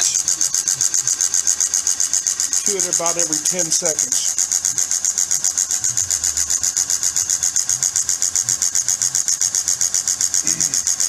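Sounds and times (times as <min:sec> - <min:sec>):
friction tester rhythmic pulsing: 0:00.0 - 0:11.0.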